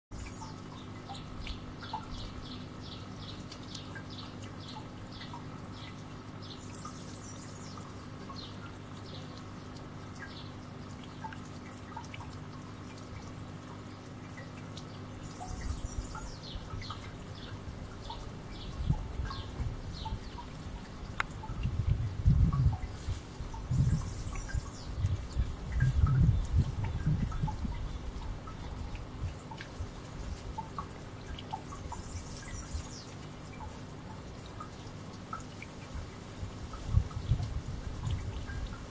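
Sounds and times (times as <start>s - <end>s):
faint ticks: 0.2s - 38.9s
steady low hum: 0.2s - 38.9s.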